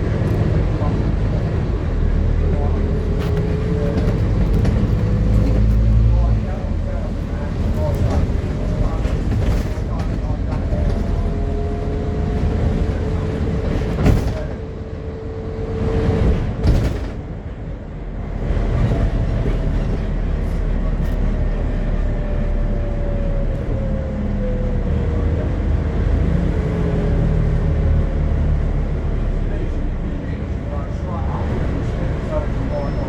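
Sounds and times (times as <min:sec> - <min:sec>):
bus engine rumble: 0:00.0 - 0:33.0.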